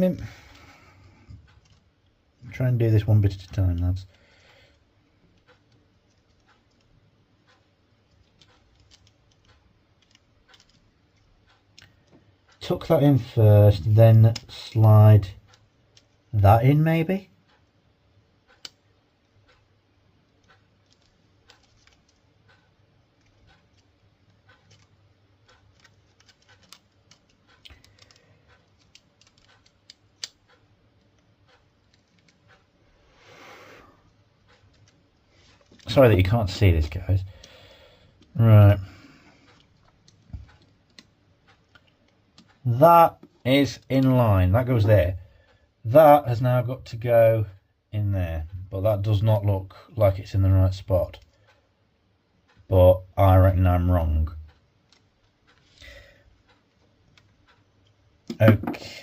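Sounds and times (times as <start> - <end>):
small parts clicking and tapping: 0.0 - 33.0, 33.8 - 45.8, 50.0 - 52.8, 53.5 - 59.0.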